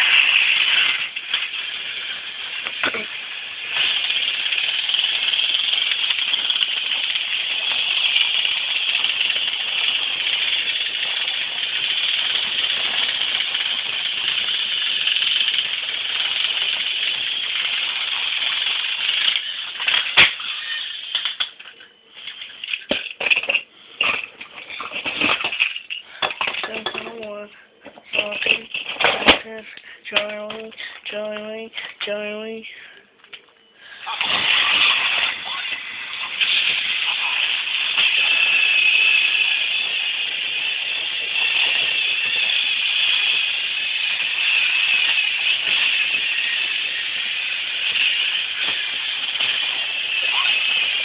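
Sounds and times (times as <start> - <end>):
toy electric motors whirring: 0.0 - 27.4, 28.1 - 30.8, 34.0 - 51.0.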